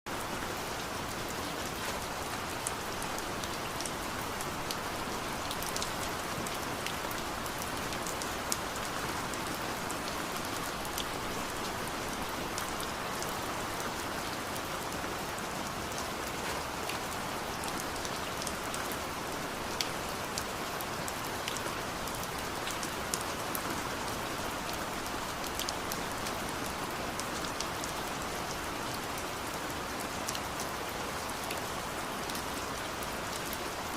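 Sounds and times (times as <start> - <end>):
rain falling: 0.1 - 33.9.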